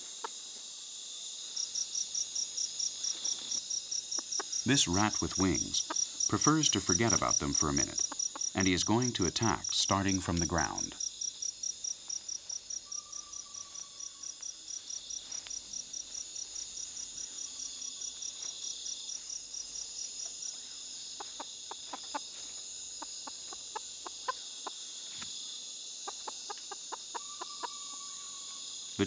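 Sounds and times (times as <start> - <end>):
cricket chirping: 0.0 - 29.0
high insect drone: 0.0 - 29.0.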